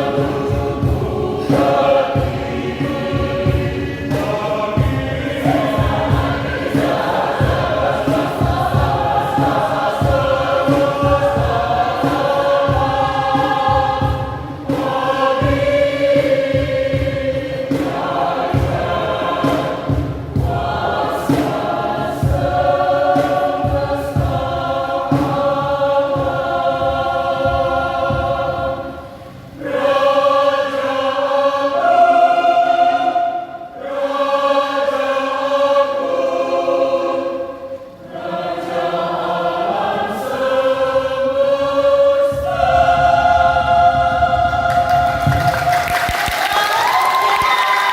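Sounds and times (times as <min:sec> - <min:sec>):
church choir singing a hymn: 0:00.0 - 0:47.9.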